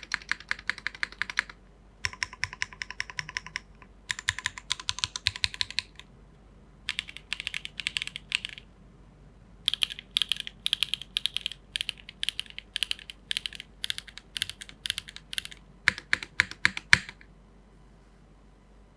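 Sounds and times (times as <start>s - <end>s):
mechanical keyboard typing: 0.0s - 6.1s, 6.9s - 8.7s, 9.7s - 17.2s.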